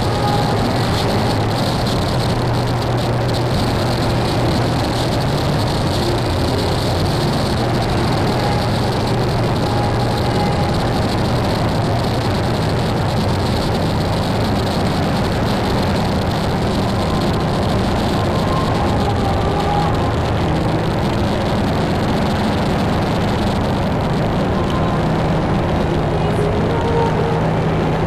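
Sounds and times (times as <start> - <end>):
deep droning rumble: 0.0 - 28.0
wall of harsh noise: 0.0 - 28.0.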